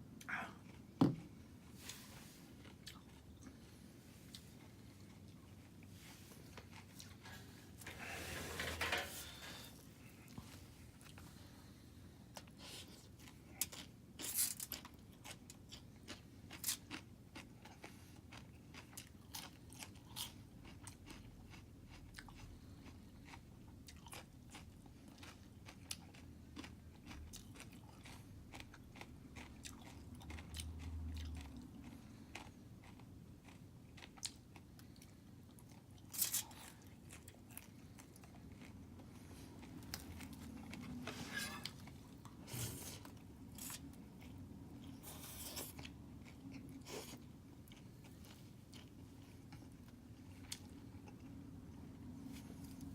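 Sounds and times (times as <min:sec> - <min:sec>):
person chewing crunchy food: 0:02.6 - 0:08.0, 0:12.3 - 0:51.4.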